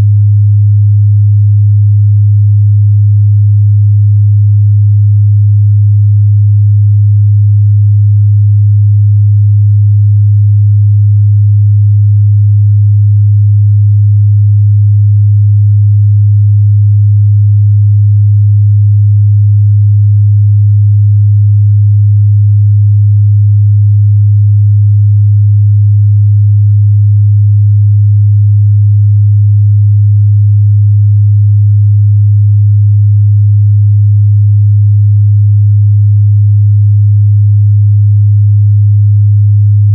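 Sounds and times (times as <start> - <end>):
low sine wave test tone: 0.0 - 39.9.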